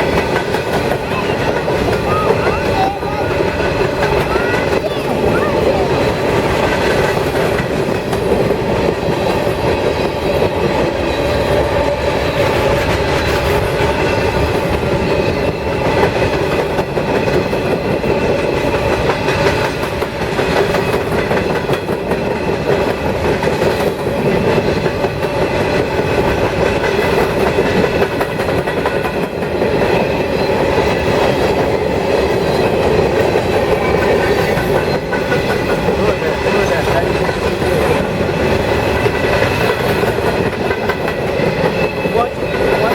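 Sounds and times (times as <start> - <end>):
train rumble: 0.0 - 42.9
train wheels clacking on rail joints: 0.0 - 42.9.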